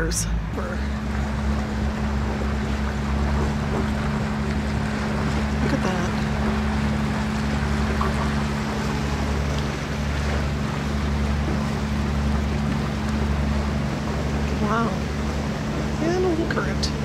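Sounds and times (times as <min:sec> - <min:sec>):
boat diesel engine humming: 0:00.0 - 0:17.0
water rushing past hull: 0:00.0 - 0:17.0
wind: 0:00.0 - 0:17.0.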